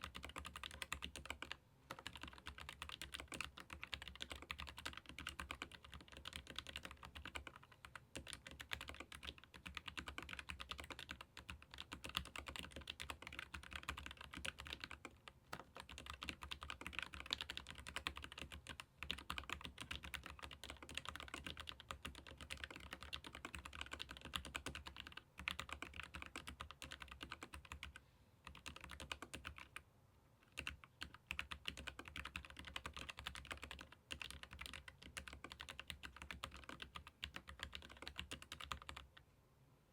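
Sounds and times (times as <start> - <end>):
fast typing on mechanical keyboard: 0.0 - 29.8, 30.5 - 39.2.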